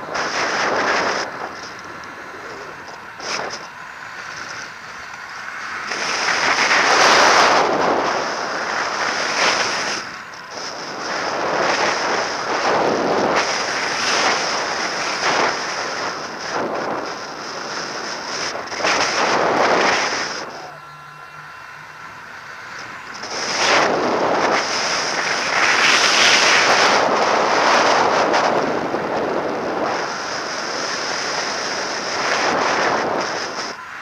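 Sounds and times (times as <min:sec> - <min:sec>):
high whine: 0:00.0 - 0:34.0
wind rushing over microphone: 0:00.0 - 0:34.0.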